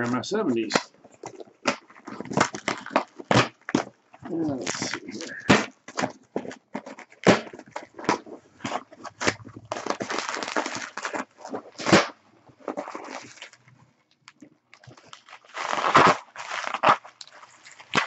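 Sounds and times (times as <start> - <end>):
bubble wrap crinkling: 0.0 - 18.0
cardboard box being torn open: 0.7 - 13.6, 14.9 - 18.0.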